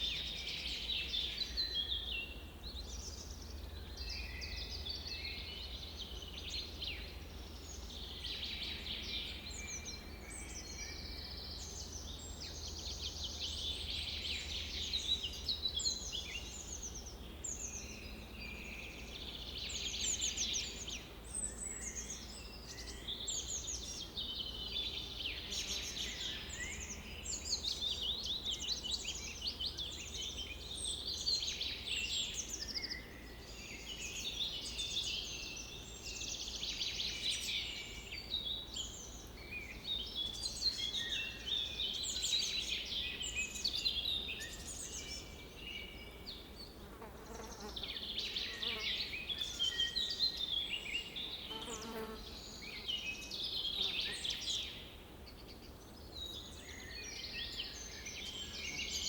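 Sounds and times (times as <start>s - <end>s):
birds singing in chorus: 0.0s - 59.0s.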